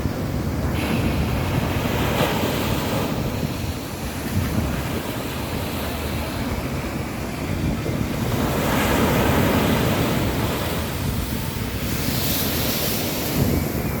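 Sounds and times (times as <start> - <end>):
hissing surf wash: 0.0 - 14.0
sea waves breaking: 0.0 - 14.0
wind rumbling on microphone: 0.0 - 14.0.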